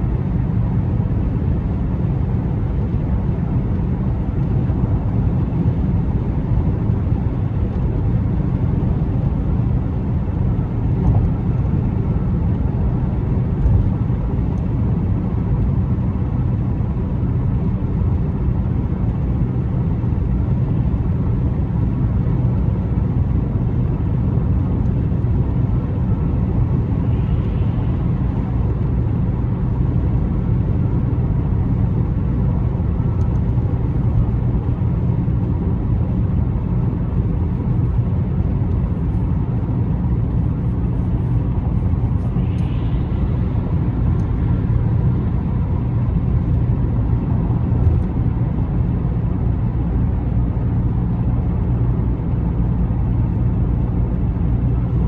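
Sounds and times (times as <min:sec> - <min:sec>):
car tyre and engine noise: 0:00.0 - 0:55.0.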